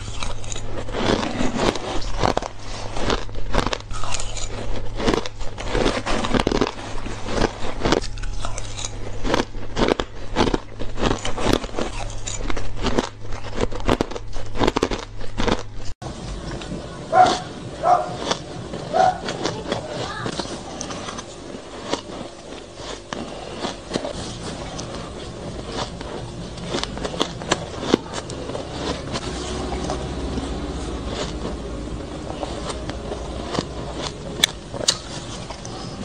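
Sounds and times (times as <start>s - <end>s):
crunching shaved ice: 0.0s - 36.0s
low hum: 0.0s - 36.0s.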